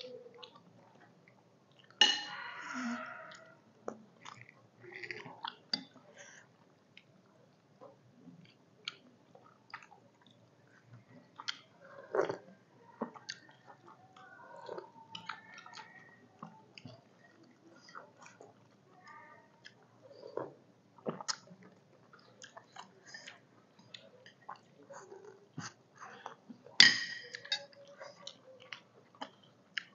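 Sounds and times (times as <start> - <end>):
people chewing food: 0.0 - 29.9.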